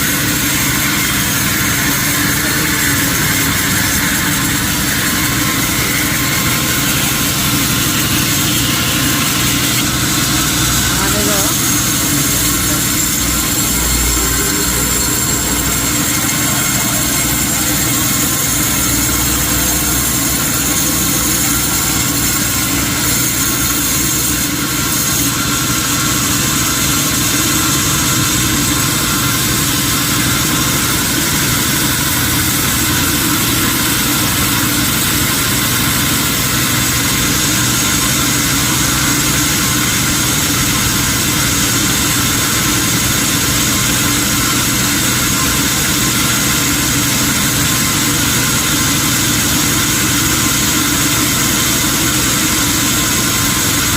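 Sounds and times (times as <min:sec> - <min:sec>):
sawmill machinery drone: 0:00.0 - 0:53.9.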